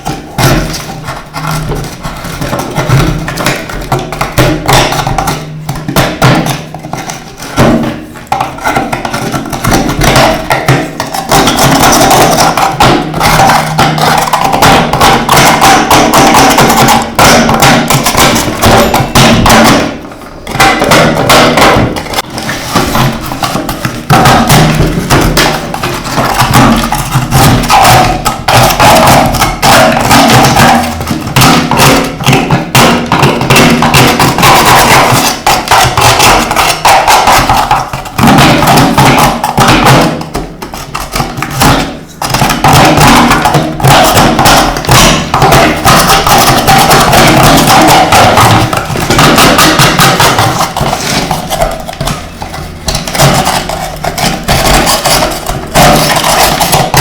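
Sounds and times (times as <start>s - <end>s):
music with percussive beat: 0.0s - 57.0s.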